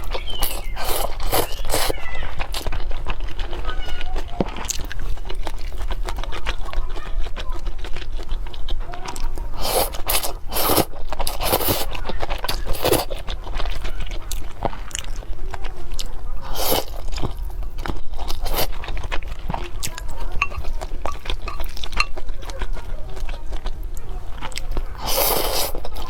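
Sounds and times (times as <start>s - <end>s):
person chewing cake: 0.0s - 26.0s.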